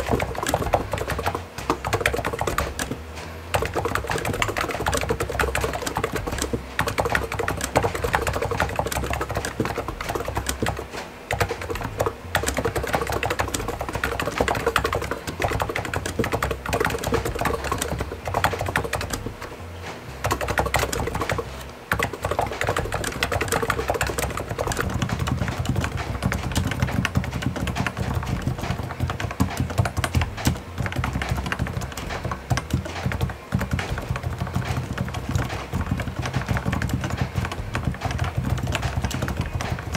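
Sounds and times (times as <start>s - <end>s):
fast typing on keyboard: 0.0s - 19.6s, 20.2s - 39.9s.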